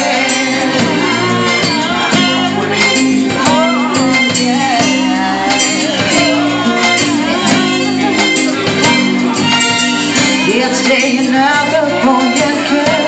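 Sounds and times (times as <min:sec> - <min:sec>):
pop ballad music: 0:00.0 - 0:13.0
wordless melodic vocal line: 0:00.0 - 0:13.0.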